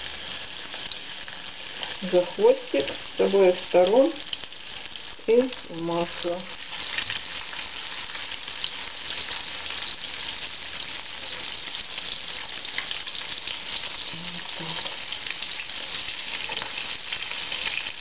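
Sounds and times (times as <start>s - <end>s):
battered fish sizzling in oil: 0.0s - 18.0s.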